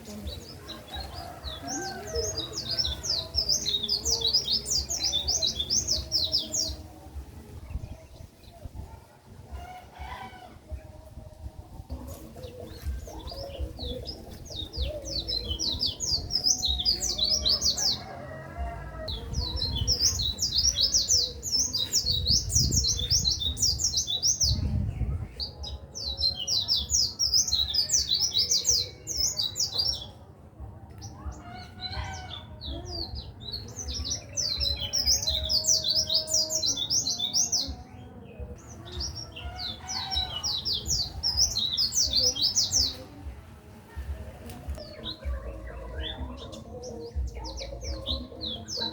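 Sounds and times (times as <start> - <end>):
bird singing high chirping phrases: 0.0 - 8.8, 12.4 - 18.1, 19.1 - 30.3, 31.0 - 43.1, 44.7 - 48.9.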